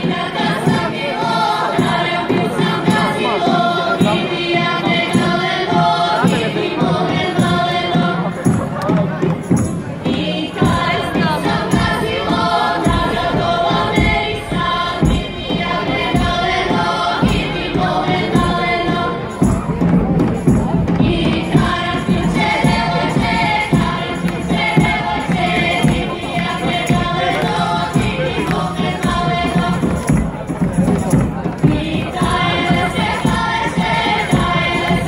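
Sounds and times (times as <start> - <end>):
women singing folk song: 0.0 - 9.2, 10.0 - 35.0
large drum beats: 0.0 - 35.0.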